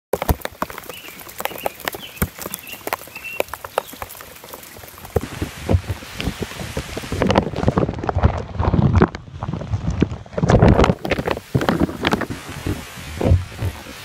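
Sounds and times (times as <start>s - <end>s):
rain splashing into puddle: 0.1s - 14.0s.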